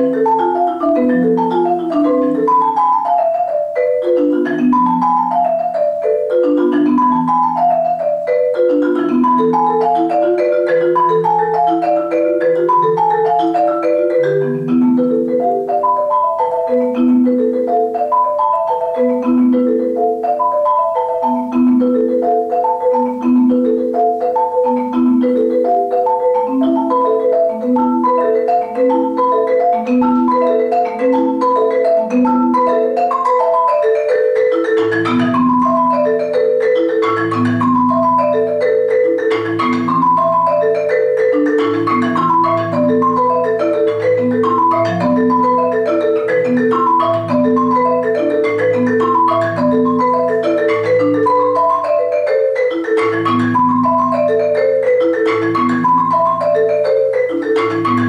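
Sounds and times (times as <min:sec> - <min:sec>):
marimbas playing: 0:00.0 - 0:58.0.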